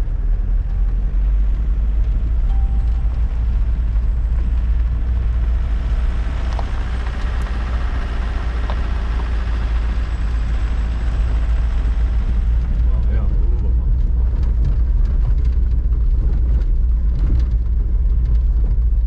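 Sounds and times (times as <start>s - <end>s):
car engine: 0.0s - 19.0s.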